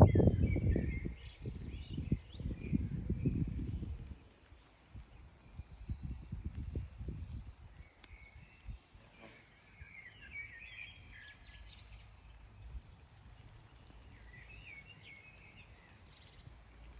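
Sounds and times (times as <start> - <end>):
birds chirping: 0.0 - 16.9
low outdoor rumble: 0.0 - 16.9.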